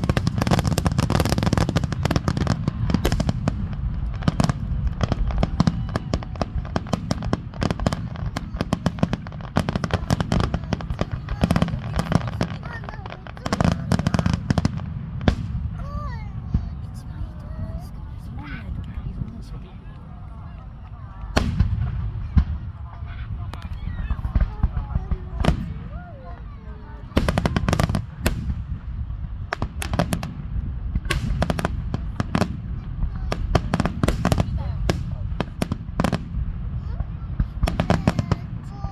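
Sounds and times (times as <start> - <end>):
deep rolling rumble: 0.0 - 38.2
fireworks bangs and crackling: 0.0 - 38.9.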